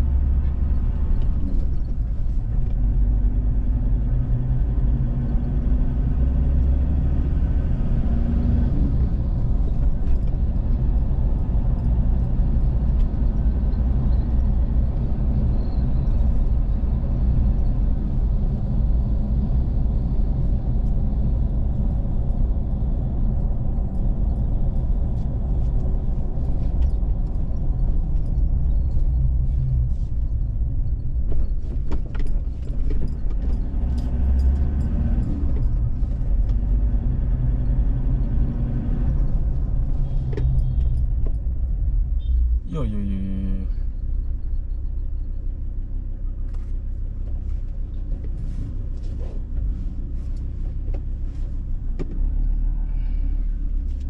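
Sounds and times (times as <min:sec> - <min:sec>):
vehicle driving on road: 0:00.0 - 0:54.0.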